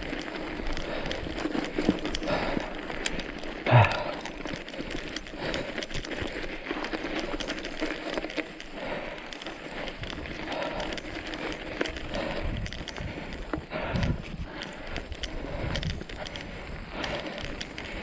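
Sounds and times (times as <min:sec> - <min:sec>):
crunching steps on dirt trail: 0:00.0 - 0:18.0.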